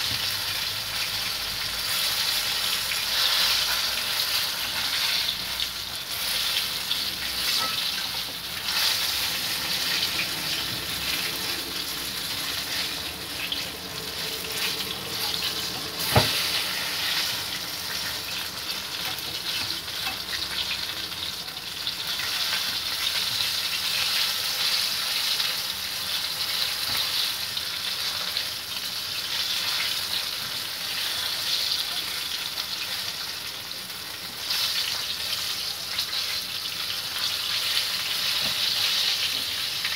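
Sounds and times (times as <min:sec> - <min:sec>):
chicken sizzling in hot oil: 0:00.0 - 0:39.9.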